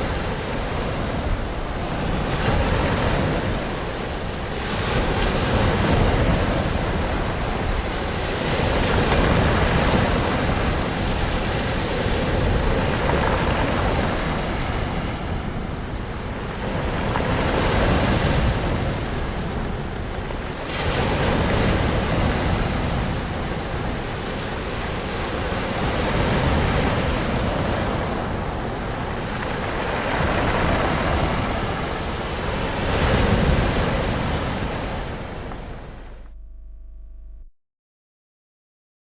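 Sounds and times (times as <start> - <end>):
ocean waves washing in: 0.0 - 36.3.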